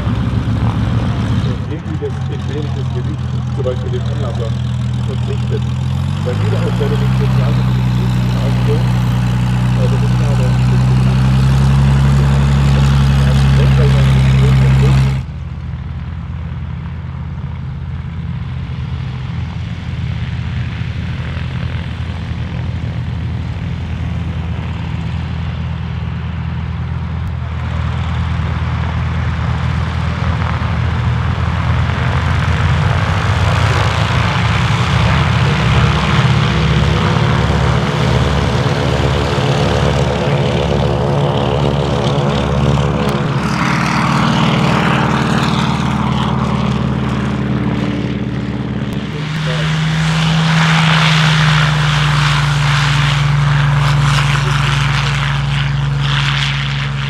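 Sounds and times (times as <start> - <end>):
propeller aircraft engines running: 0.0 - 57.0.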